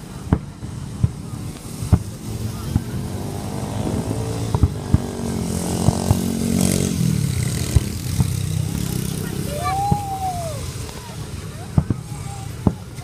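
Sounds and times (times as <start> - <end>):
motorbike engines droning: 0.0 - 13.0.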